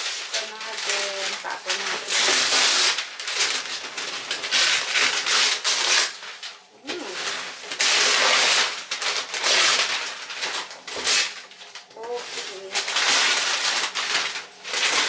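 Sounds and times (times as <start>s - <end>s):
wrapping paper rustling: 0.0s - 15.0s.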